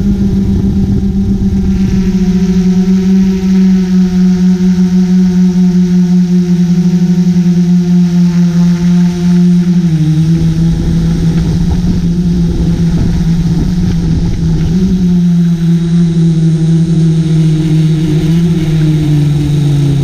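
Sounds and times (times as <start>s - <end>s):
drone propellers humming: 0.0s - 20.0s
wind rumble on microphone: 0.0s - 20.0s.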